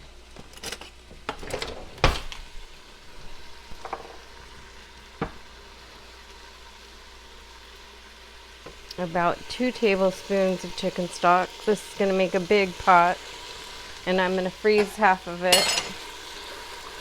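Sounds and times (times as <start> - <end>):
chicken sizzling in oil: 2.2 - 17.0.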